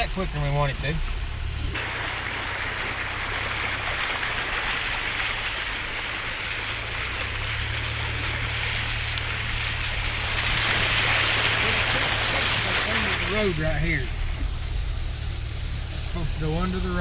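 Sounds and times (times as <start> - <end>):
floodwater rushing: 0.0 - 17.0
vehicle engine running: 0.0 - 17.0.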